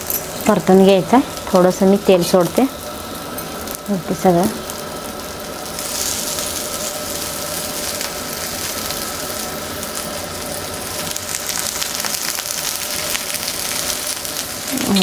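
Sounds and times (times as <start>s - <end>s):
vegetable slices frying in oil: 0.0s - 15.0s.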